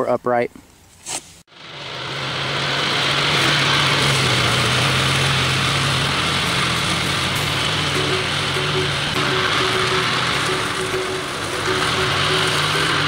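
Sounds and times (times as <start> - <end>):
garden tractor engine running: 1.5 - 13.0.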